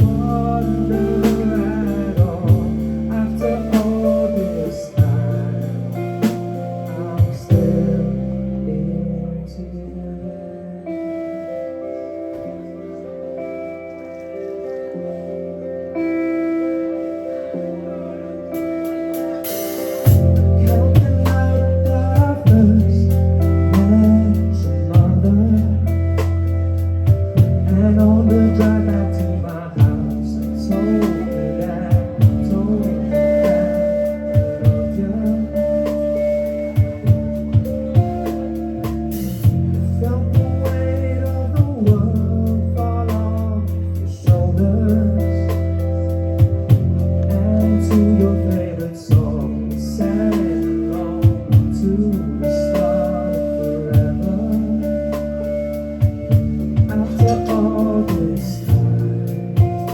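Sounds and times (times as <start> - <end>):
live rock band playing: 0.0 - 9.7, 11.0 - 59.9
person singing: 0.0 - 59.9.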